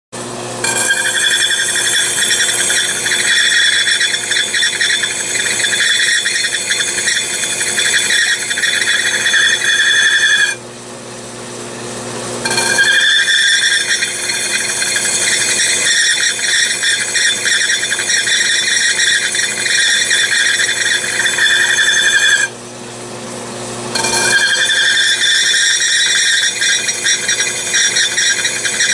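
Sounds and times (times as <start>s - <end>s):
spindle humming: 0.6s - 10.6s, 12.4s - 22.6s, 23.9s - 28.9s
wheel grinding glass with whine: 0.6s - 10.6s, 12.3s - 22.6s, 23.9s - 28.9s.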